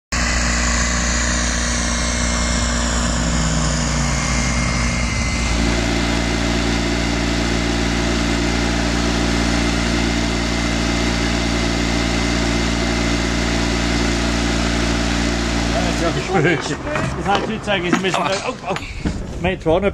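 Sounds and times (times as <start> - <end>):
tractor engine running: 0.1 - 19.4.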